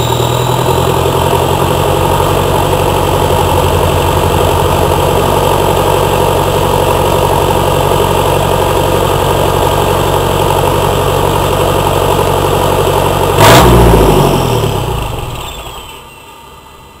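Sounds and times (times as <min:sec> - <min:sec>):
engine idling: 0:00.0 - 0:17.0
engine loud burst: 0:00.0 - 0:17.0
engine winding down: 0:00.0 - 0:17.0.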